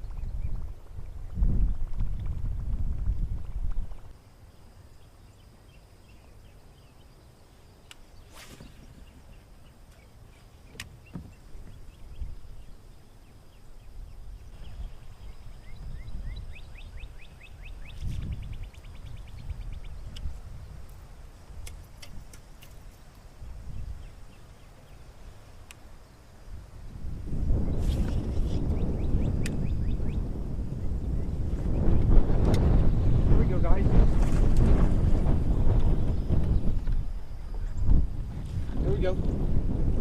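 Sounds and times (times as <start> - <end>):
wind buffeting microphone: 0.0 - 4.2, 8.1 - 40.0.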